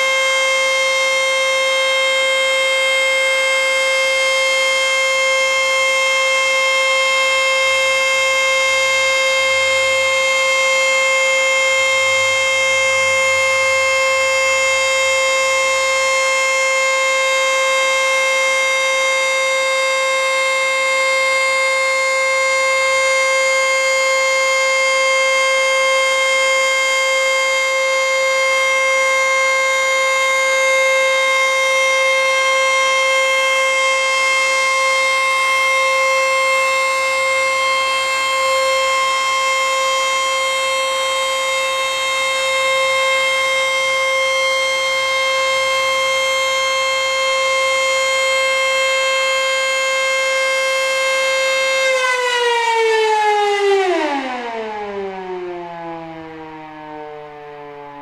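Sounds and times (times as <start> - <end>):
warning siren steady pitch: 0.0 - 58.0.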